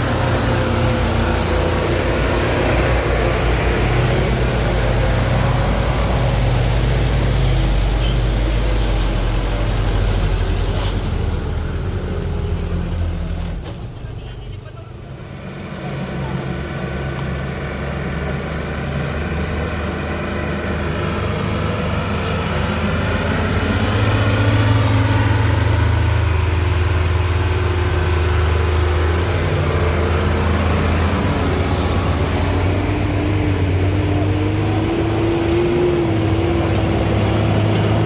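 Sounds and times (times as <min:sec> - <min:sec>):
heavy diesel engines under load: 0:00.0 - 0:38.0.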